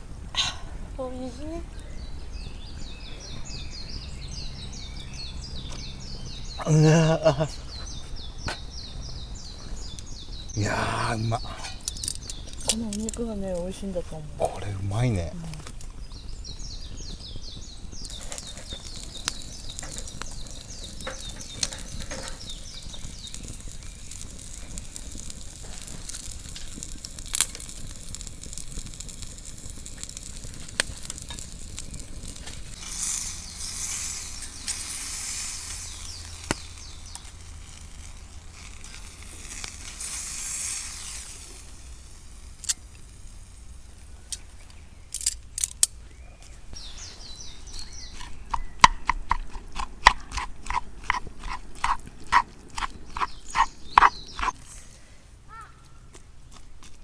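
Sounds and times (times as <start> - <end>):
meat sizzling on a grill: 0.0 - 45.3, 46.8 - 49.9
fire pops and crackles: 0.0 - 46.1, 46.7 - 54.9.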